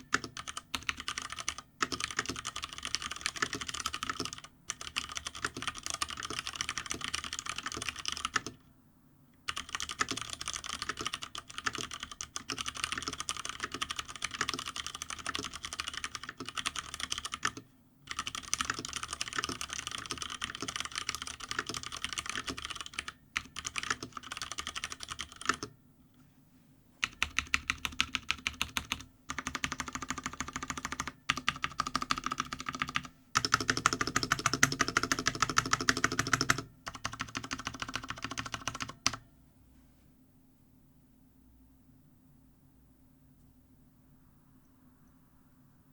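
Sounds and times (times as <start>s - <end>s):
mechanical keyboard typing: 0.0s - 8.6s, 9.5s - 25.8s, 27.0s - 39.2s.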